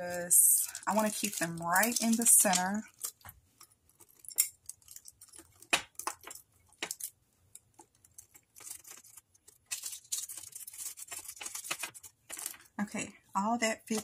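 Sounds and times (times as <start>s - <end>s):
plastic crinkling: 0.0s - 12.8s.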